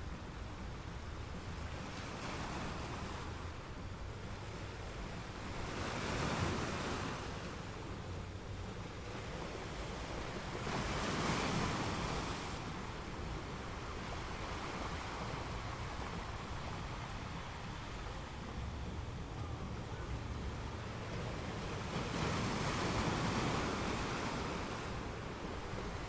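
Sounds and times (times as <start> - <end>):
waves breaking: 0.0 - 26.0.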